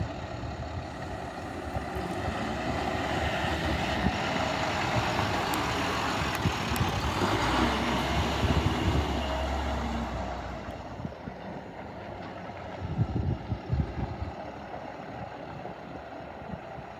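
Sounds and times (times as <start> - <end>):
truck diesel engine running: 0.0 - 16.9.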